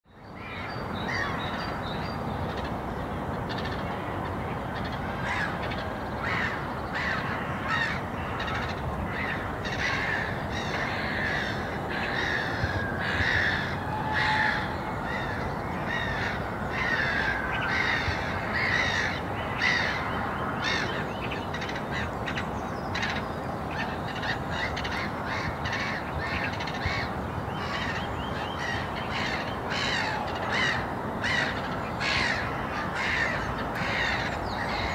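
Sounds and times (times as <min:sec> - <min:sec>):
low background noise: 0:00.1 - 0:34.9
birds calling: 0:00.3 - 0:34.9.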